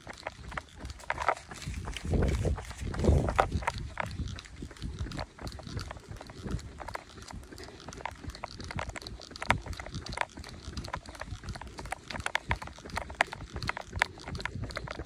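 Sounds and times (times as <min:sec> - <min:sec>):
running footsteps on pavement: 0:00.0 - 0:15.0.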